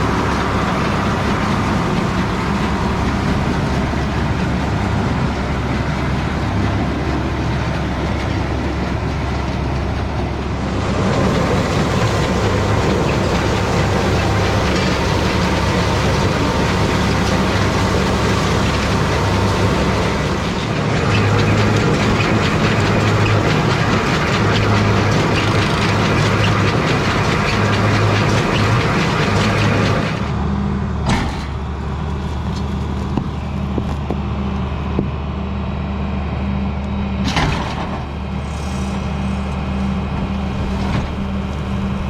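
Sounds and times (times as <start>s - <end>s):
baler machinery clatter: 0.0s - 35.4s, 37.2s - 42.0s
tractor engine running: 0.0s - 42.0s.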